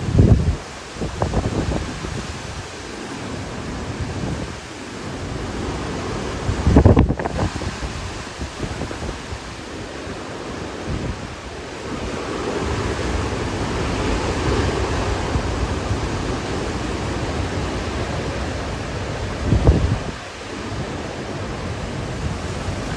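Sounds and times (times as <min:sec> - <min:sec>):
strong wind rushing: 0:00.0 - 0:22.9
wind buffeting microphone: 0:00.0 - 0:22.9.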